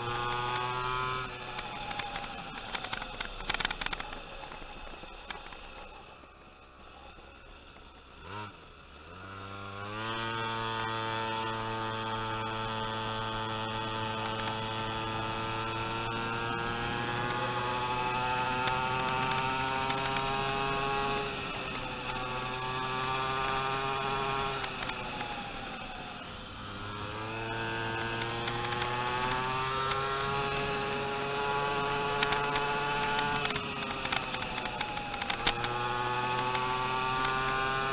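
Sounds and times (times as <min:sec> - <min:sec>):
small motor whining: 0:00.0 - 0:37.9.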